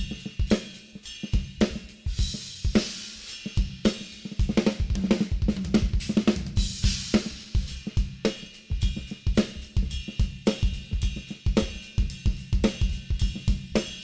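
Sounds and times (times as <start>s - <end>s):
drum kit groove: 0.0s - 14.0s.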